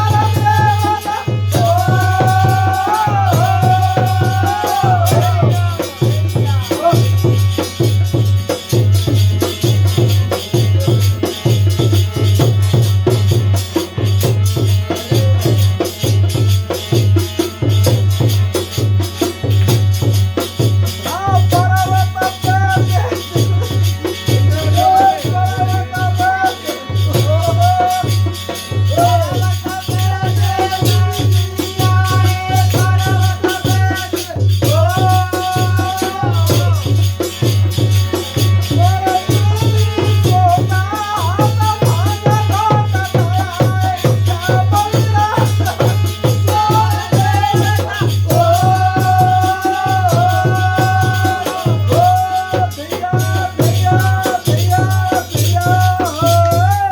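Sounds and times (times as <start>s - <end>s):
rattling percussion: 0.0s - 56.9s
steady drum beat: 0.0s - 56.9s.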